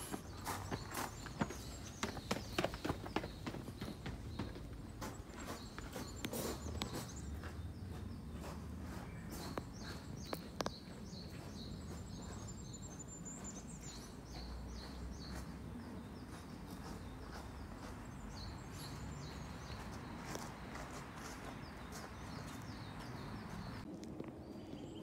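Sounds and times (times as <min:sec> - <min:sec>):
bird chirping: 0:00.0 - 0:25.0
footsteps on gravel: 0:00.0 - 0:25.0.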